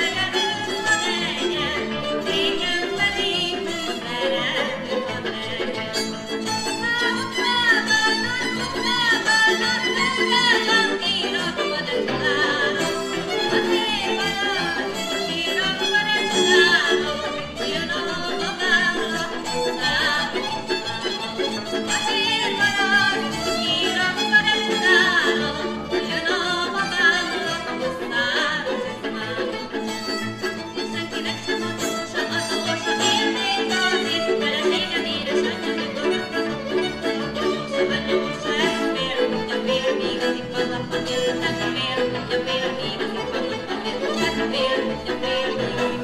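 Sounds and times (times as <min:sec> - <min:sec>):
folk string band playing: 0:00.0 - 0:46.0.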